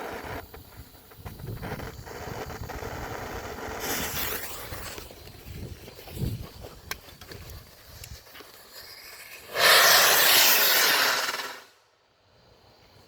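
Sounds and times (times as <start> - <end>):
rocket igniting hiss: 0.0 - 12.1.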